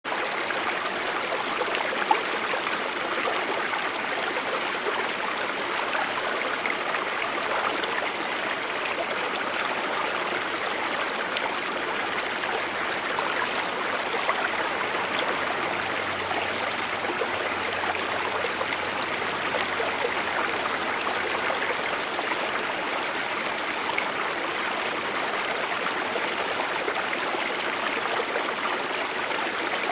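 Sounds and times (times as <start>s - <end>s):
mountain river rushing: 0.1s - 29.9s.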